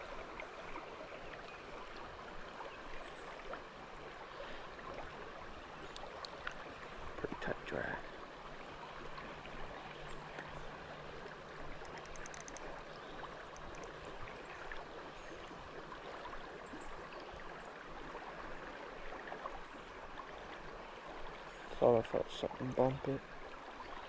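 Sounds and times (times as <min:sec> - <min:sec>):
creek water flowing: 0:00.0 - 0:24.0.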